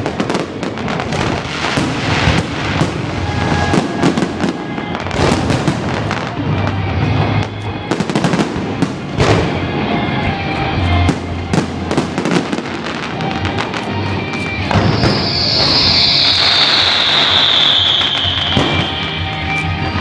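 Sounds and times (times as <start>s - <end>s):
fireworks bangs and crackles: 0.0s - 20.0s
music playing: 0.0s - 20.0s.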